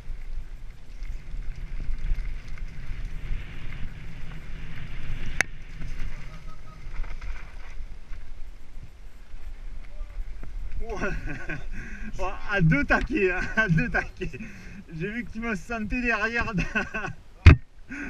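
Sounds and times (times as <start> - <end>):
bike tyres rumbling on dirt trail: 0.0 - 18.0.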